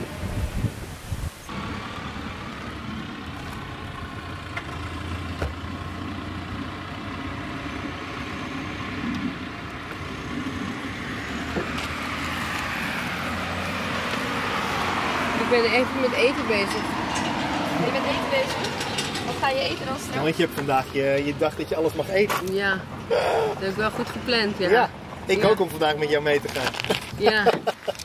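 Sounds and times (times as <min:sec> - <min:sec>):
car engine and road hum: 0:00.0 - 0:28.0.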